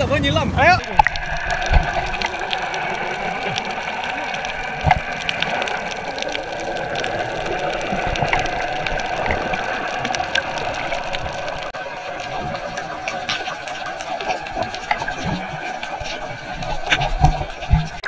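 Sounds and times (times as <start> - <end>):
underwater motor hum: 0.0 - 18.0
clicks and crackles: 0.7 - 18.0.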